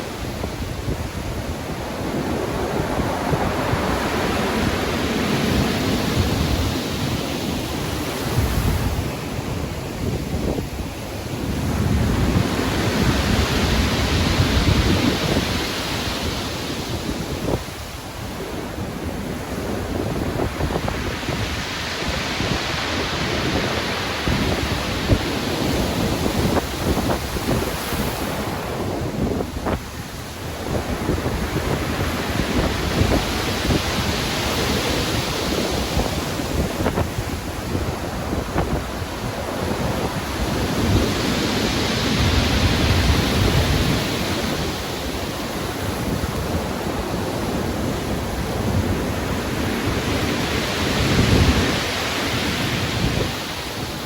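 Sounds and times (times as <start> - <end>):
stormy sea waves breaking: 0.0 - 54.0
wind: 0.0 - 54.0.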